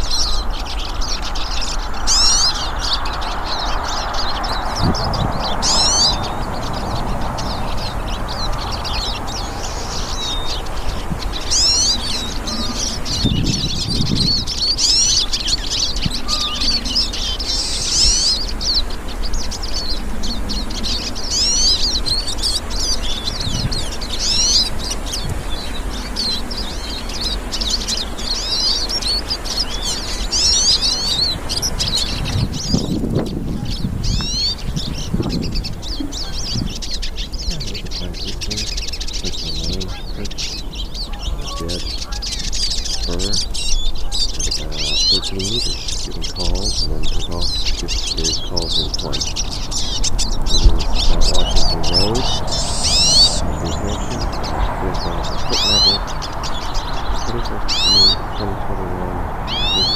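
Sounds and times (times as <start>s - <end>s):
siskins twittering: 0.0s - 59.9s.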